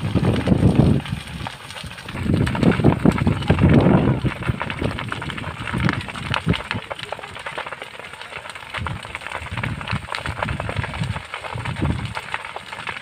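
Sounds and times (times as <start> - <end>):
fire crackling: 0.0 - 13.0.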